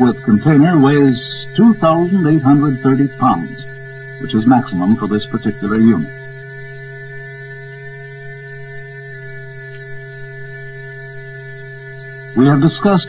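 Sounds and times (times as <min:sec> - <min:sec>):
background hiss: 0:00.0 - 0:06.4, 0:07.1 - 0:13.0
electrical hum: 0:00.0 - 0:13.0.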